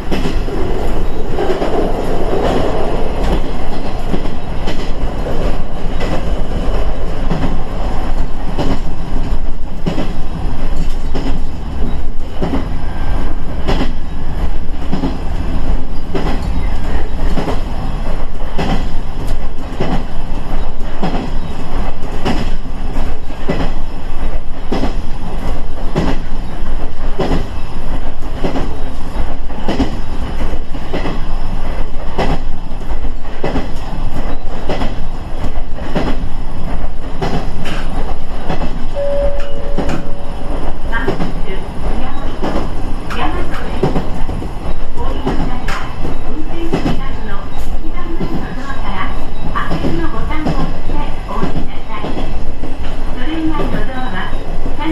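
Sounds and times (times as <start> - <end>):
diesel railcar rumbling: 0.0 - 54.9.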